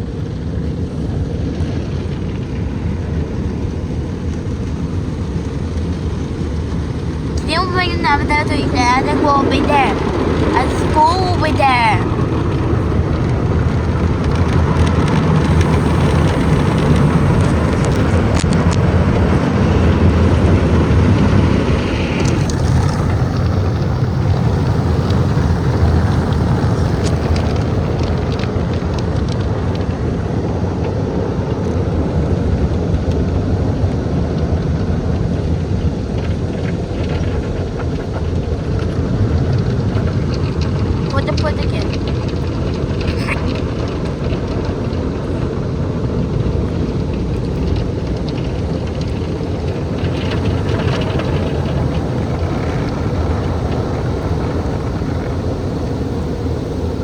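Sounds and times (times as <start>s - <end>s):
loud rushing noise inside car: 0.0s - 57.0s.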